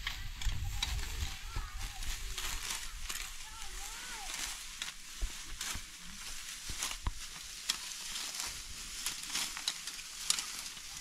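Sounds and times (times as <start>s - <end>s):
crisp snaps of stalks: 0.0s - 11.0s
grain stalks crackling and rustling: 0.0s - 11.0s.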